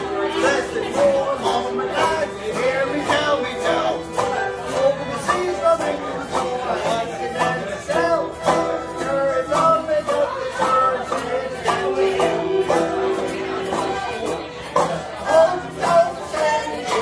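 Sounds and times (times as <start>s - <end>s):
banjo: 0.0s - 17.0s
strummed acoustic guitar: 0.0s - 17.0s.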